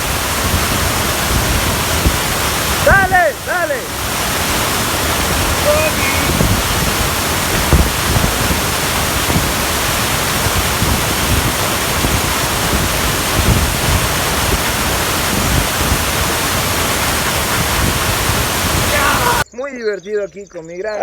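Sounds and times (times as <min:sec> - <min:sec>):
low buffeting thumps: 0:00.0 - 0:19.4
waterfall rushing: 0:00.0 - 0:19.4.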